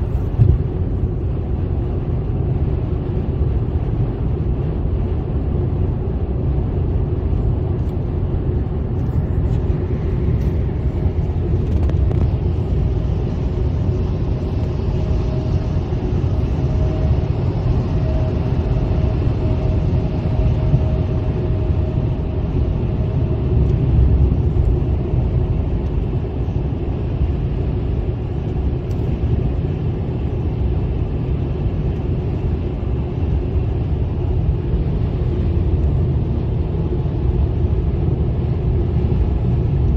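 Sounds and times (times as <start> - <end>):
car road and engine rumble: 0.0 - 39.9
faint whine: 0.0 - 39.9.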